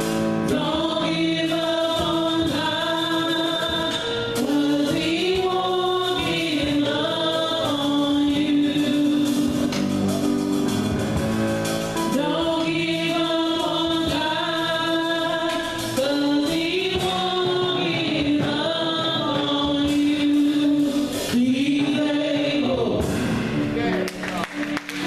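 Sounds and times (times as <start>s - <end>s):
choir singing gospel: 0.0s - 23.7s.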